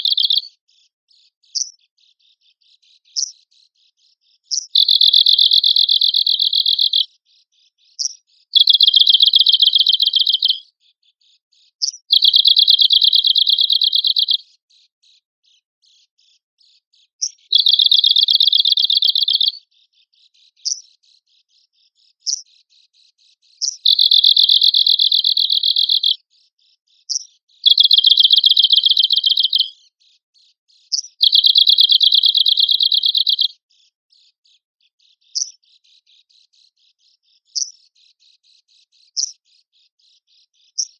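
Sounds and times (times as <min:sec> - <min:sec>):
bird singing trill: 0:00.0 - 0:40.9.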